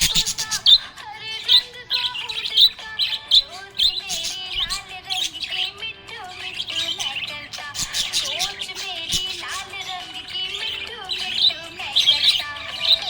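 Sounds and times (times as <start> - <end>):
budgerigar chirping and warbling: 0.0 - 13.0.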